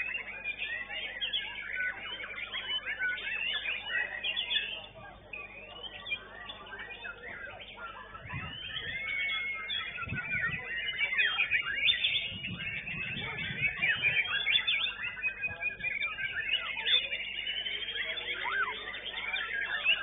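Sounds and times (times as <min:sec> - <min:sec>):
songbirds whistling and trilling: 0:00.0 - 0:20.0.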